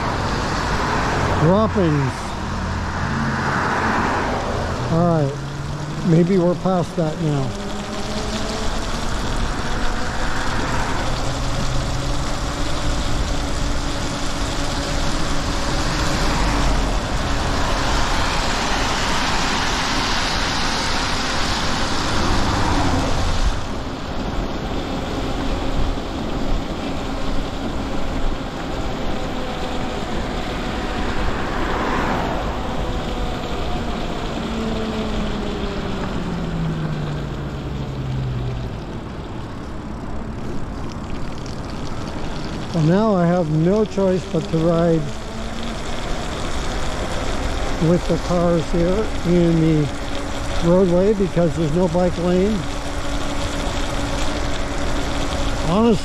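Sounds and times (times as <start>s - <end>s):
tyre hiss on wet road: 0.0s - 41.0s, 41.6s - 56.0s
electric motor whine: 0.0s - 56.0s.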